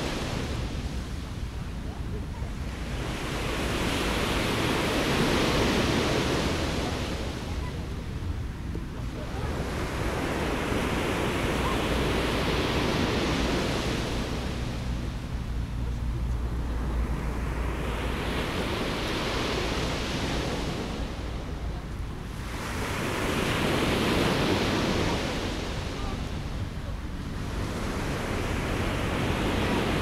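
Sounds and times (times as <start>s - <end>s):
sea waves breaking on beach: 0.0s - 15.8s, 16.5s - 30.0s
wind rumble on microphone: 0.0s - 30.0s.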